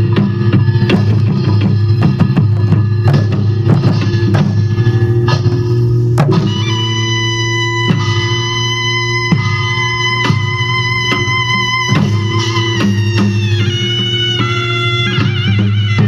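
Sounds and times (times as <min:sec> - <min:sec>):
drum strokes: 0:00.0 - 0:16.0
sustained instrumental melody: 0:00.0 - 0:16.0.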